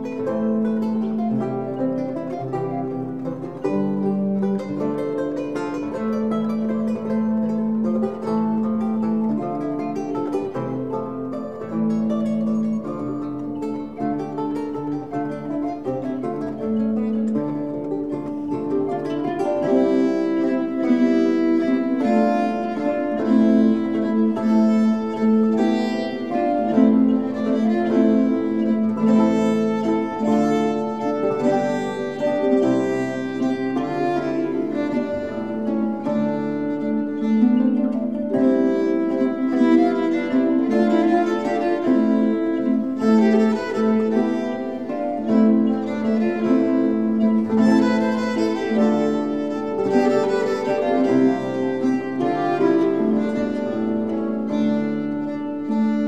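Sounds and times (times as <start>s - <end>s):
bowed string melody: 0.0s - 56.0s
plucked strings: 0.0s - 56.0s.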